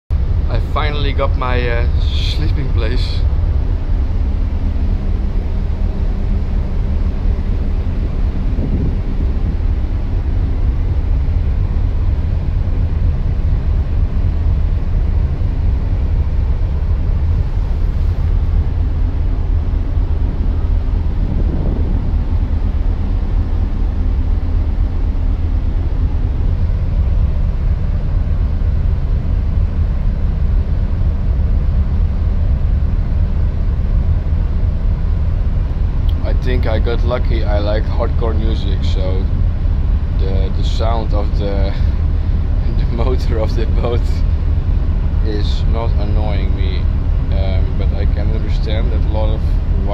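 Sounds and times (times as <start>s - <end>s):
ferry engines rumbling: 0.1s - 49.9s
faint low hum: 0.3s - 49.9s.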